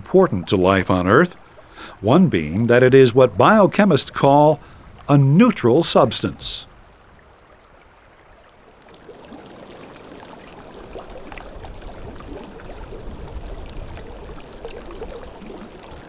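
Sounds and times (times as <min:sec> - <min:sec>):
water trickling and bubbling: 0:00.0 - 0:16.0.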